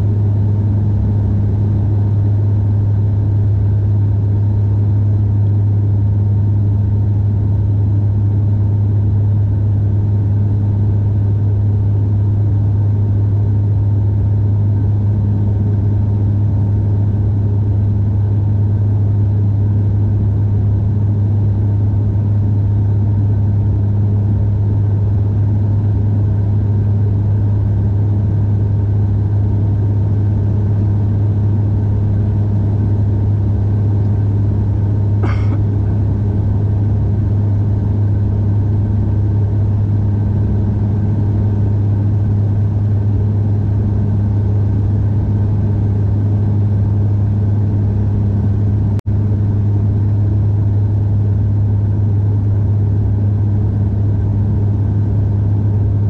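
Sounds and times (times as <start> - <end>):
airliner cabin engine hum: 0.0 - 56.0.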